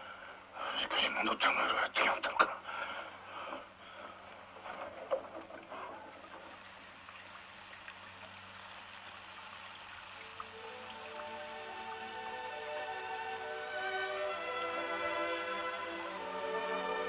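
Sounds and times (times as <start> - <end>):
low steady hum: 0.0 - 17.0
rain hissing: 2.5 - 17.0.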